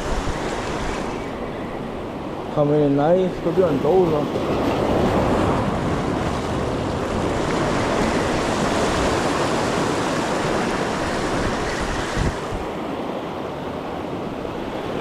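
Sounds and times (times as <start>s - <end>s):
wind buffeting microphone: 0.0s - 2.6s, 3.4s - 15.0s
ocean surf on shore: 0.0s - 15.0s.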